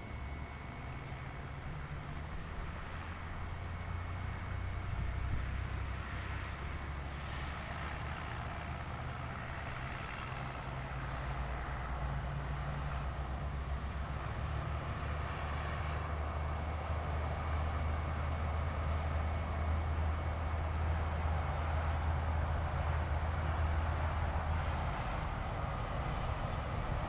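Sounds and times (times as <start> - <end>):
distant road traffic rumble: 0.0 - 27.0.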